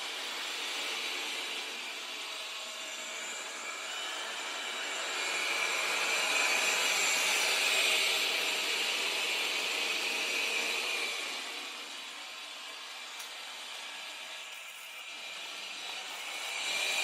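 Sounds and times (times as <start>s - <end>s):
vacuum motor whirring: 0.0s - 17.0s.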